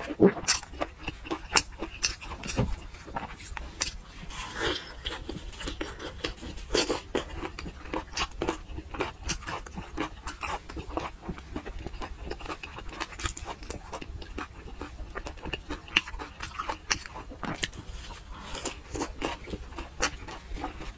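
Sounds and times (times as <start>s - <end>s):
wet chewing and lip-smacking: 0.0s - 20.9s.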